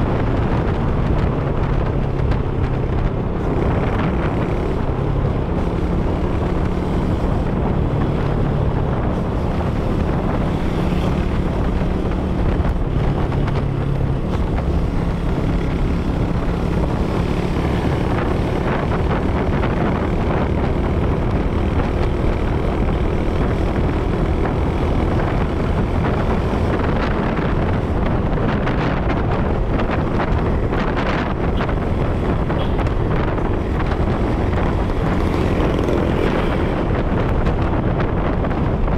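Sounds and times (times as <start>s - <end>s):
road noise: 0.0s - 38.9s
vehicle engine hum: 0.0s - 38.9s
wind buffeting microphone: 0.0s - 38.9s.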